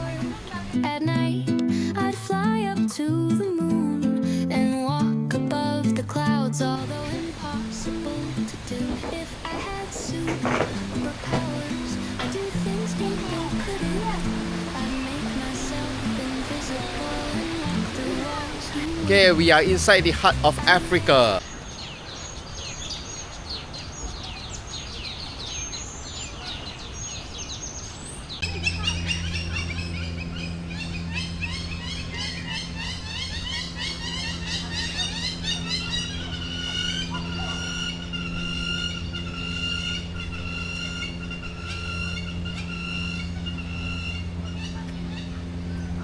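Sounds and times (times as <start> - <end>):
birds chirping: 6.8 - 46.0.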